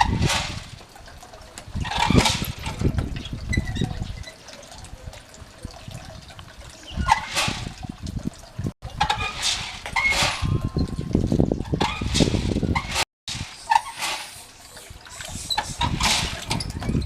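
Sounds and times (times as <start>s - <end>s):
water splashing and pouring: 0.0s - 17.0s.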